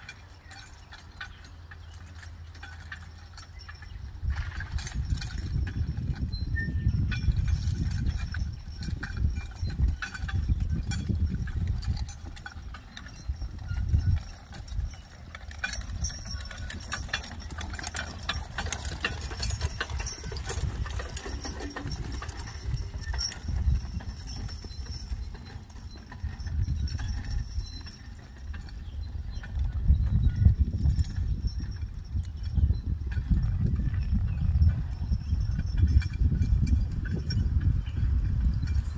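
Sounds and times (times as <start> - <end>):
harness and carriage rattling: 0.0 - 38.9
horse hoofbeats on grass: 0.0 - 38.9.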